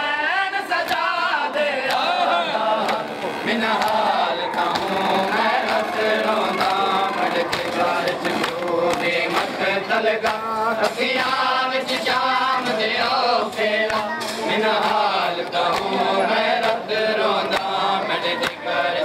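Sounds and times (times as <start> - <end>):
crowd of men chanting: 0.0 - 19.0.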